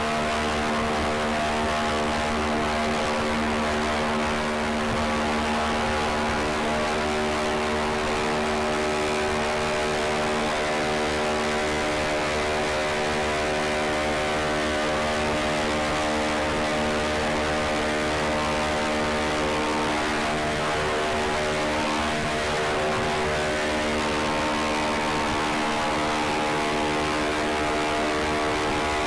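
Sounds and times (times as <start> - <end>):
small helicopter rotors whirring: 0.0 - 29.0.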